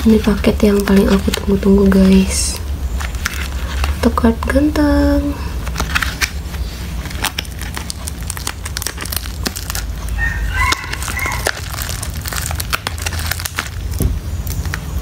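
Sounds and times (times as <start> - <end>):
bubble mailer crinkling: 0.0 - 15.0
steady low hum: 0.0 - 15.0.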